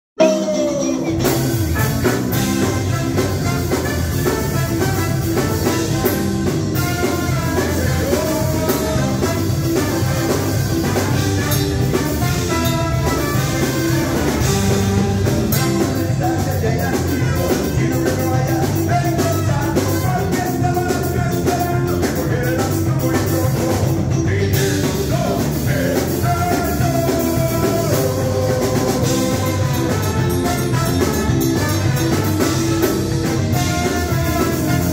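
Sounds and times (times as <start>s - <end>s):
trombone horn section: 0.2s - 23.9s, 24.5s - 34.9s
ska band playing: 0.2s - 34.9s.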